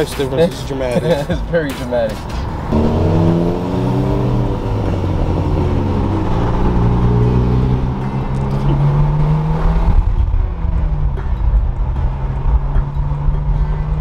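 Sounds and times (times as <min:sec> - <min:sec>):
car engine accelerating: 0:01.7 - 0:14.0.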